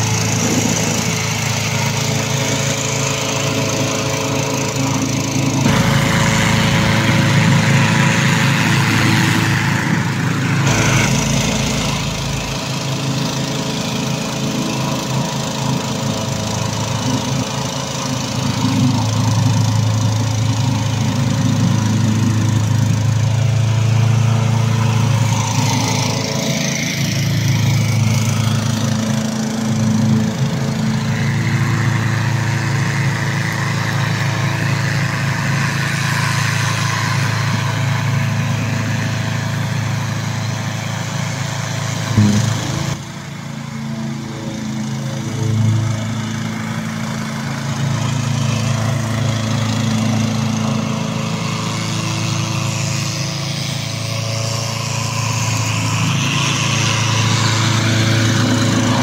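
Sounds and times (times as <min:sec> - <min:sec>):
petrol engine running: 0:00.0 - 0:59.0.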